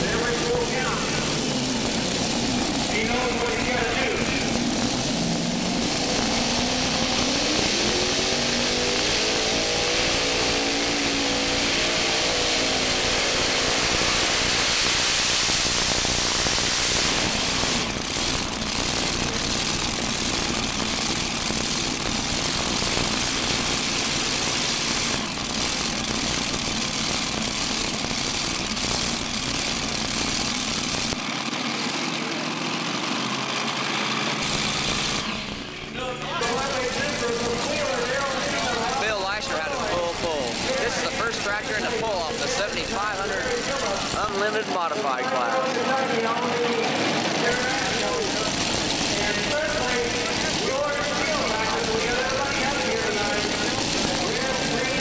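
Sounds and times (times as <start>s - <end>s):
tractor engines roaring: 0.0s - 55.0s.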